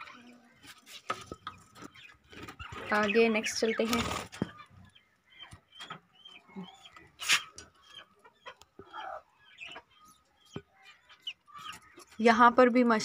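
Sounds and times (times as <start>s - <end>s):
budgerigars chirping and squawking: 0.0s - 13.0s.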